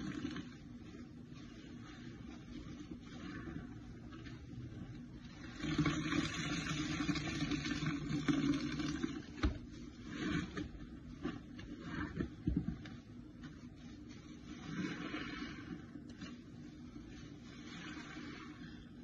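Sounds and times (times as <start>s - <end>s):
sponges squelching in foam: 0.0s - 19.0s.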